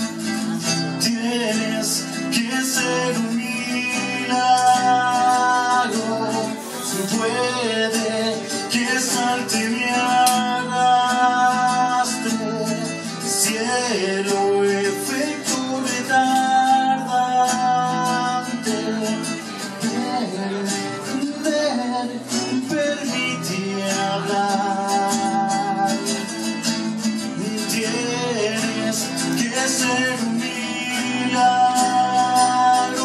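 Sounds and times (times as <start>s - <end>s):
acoustic guitar: 0.0s - 33.0s
man singing: 0.0s - 33.0s.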